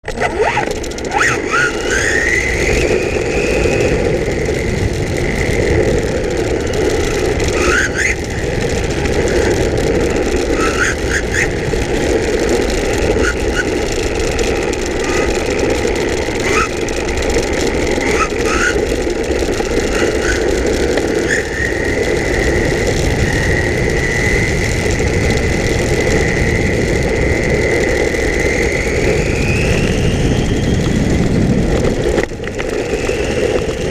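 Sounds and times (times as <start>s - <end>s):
constant rumbling noise: 0.0s - 33.9s
electric motor whining: 0.0s - 33.9s.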